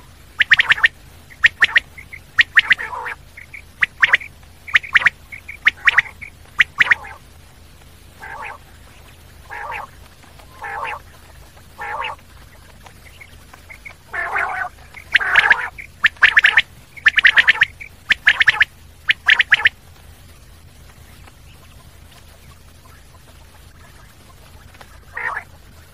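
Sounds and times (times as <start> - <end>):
quail calling: 0.0 - 19.8, 20.9 - 25.9.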